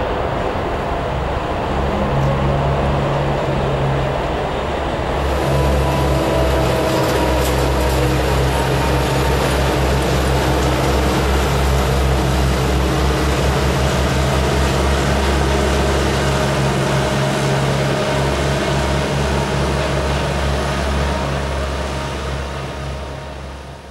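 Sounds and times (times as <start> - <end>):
jet engine roar: 0.0 - 23.9.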